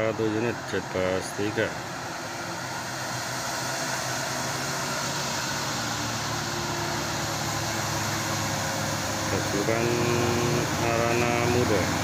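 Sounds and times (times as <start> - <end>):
bus diesel engine labouring: 0.0 - 12.0.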